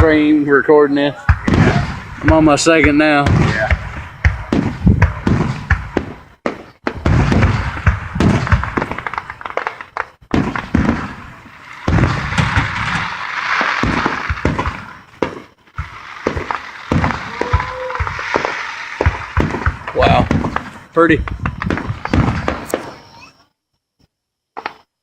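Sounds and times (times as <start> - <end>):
firework bangs and thumps: 1.2 - 23.3
firework crackling: 1.2 - 23.4.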